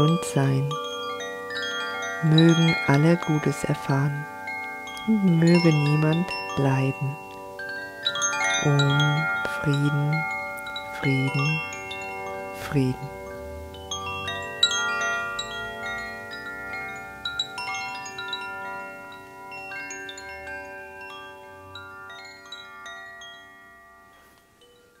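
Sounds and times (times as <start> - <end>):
wind chimes ringing: 0.0 - 25.0.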